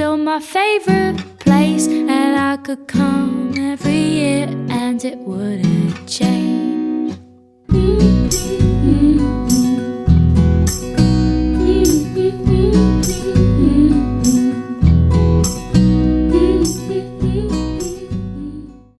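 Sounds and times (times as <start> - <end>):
pop song with acoustic guitar: 0.0 - 19.0.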